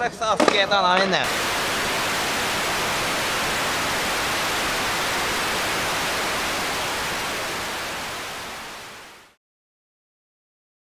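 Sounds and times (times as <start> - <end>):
static noise hiss: 0.4 - 9.4.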